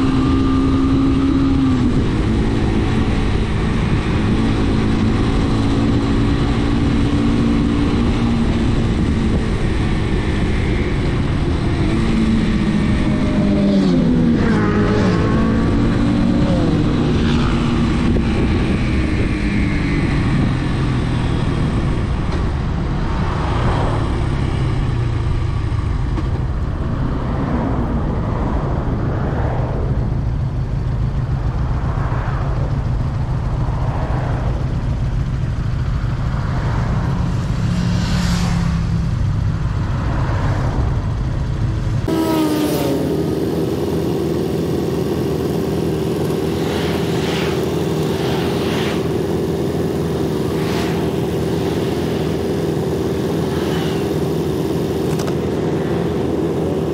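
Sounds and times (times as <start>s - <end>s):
motorcycle engine at road speed: 0.0s - 56.9s
steady low rush: 0.0s - 56.9s.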